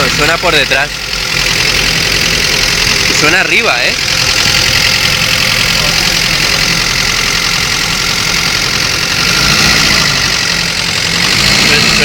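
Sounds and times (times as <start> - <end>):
car engine idling: 0.0 - 12.0
engine ticking noise: 0.0 - 12.0.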